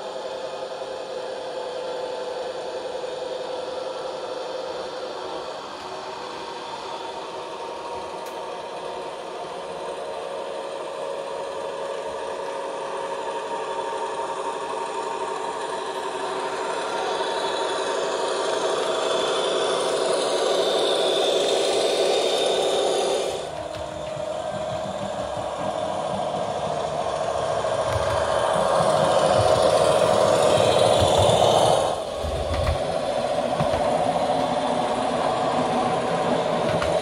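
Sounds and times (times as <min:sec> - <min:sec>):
diesel railcar engine from speaker: 0:00.0 - 0:37.0
model train rumbling on track: 0:00.0 - 0:37.0.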